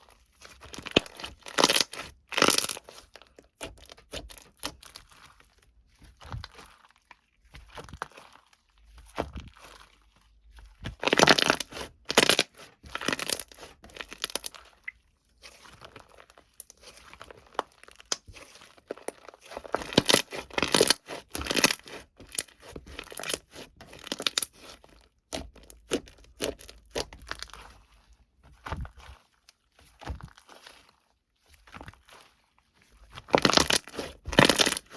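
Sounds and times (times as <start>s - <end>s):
rustling and crunching: 0.0s - 34.9s.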